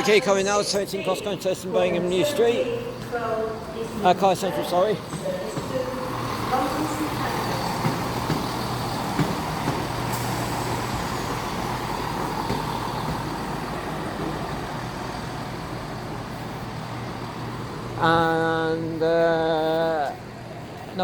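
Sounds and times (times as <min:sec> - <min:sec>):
diesel train engine hum: 0:00.0 - 0:21.0.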